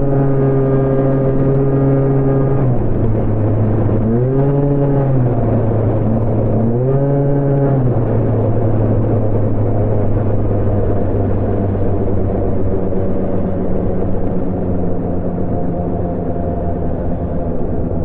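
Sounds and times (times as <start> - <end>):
scooter engine running and revving: 0.0 - 18.0.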